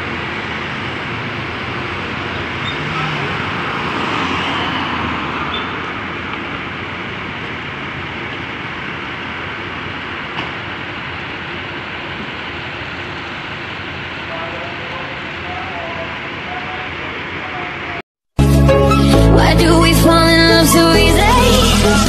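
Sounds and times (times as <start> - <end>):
buses driving past: 0.0 - 22.0.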